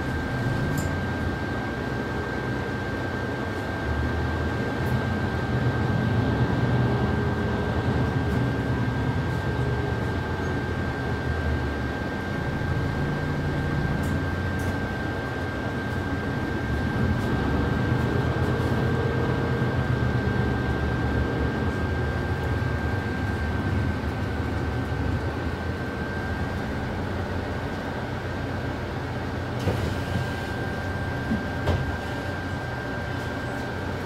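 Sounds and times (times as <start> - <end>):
bus engine and road noise: 0.0 - 34.0.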